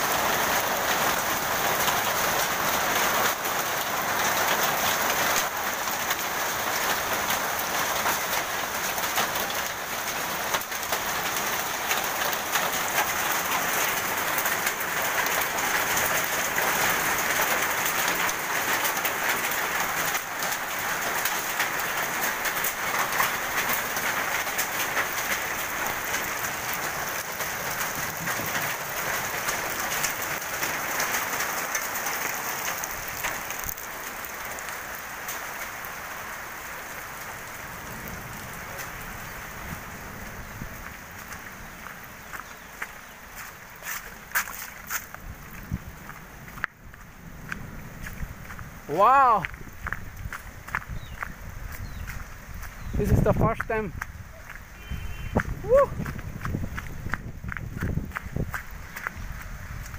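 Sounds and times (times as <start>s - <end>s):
hail and rain pelting down: 0.0s - 59.9s.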